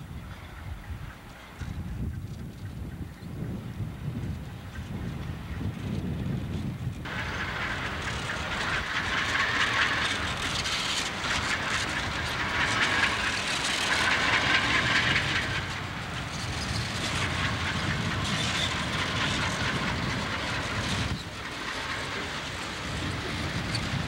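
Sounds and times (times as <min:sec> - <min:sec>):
locomotive engines rumbling: 0:00.0 - 0:24.0.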